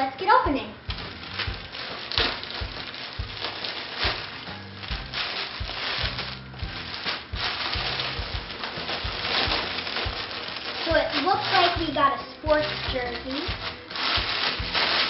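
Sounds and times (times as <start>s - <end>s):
background music: 0.0s - 15.0s
plastic packaging crinkling: 0.5s - 15.0s.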